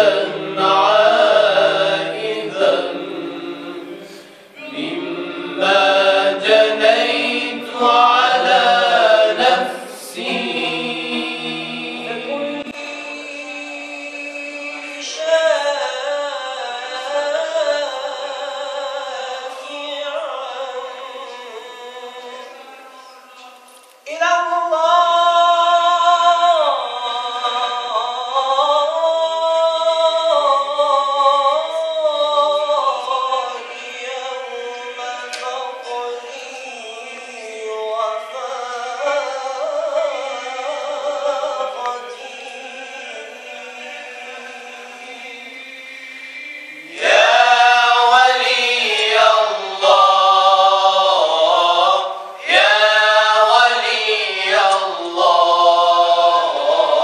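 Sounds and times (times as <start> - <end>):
men singing devotional chant: 0.0 - 57.0.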